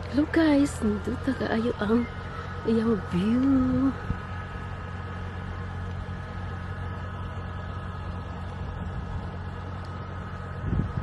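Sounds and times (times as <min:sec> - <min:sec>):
faint high whine: 0:00.0 - 0:11.0
steady low hum: 0:00.0 - 0:11.0.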